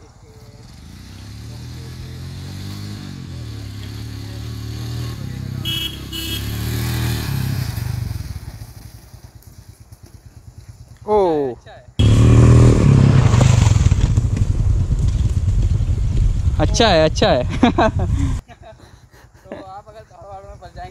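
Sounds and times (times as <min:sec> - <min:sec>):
motorcycle engine revving: 0:00.0 - 0:11.4, 0:12.0 - 0:18.4.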